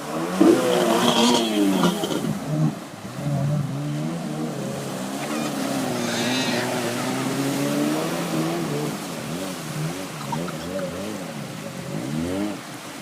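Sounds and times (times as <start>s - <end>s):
watercraft engine running: 0.0s - 13.0s.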